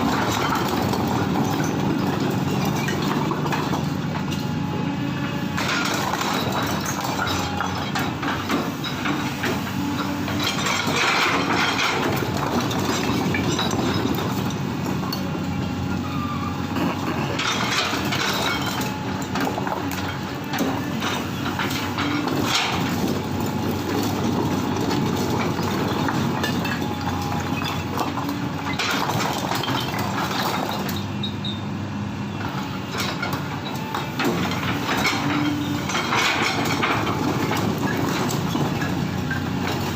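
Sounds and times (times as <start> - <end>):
knocks and clatter: 0.0 - 4.6, 5.3 - 15.5, 16.7 - 31.1, 32.4 - 39.9
excavator diesel engine running: 0.0 - 39.9.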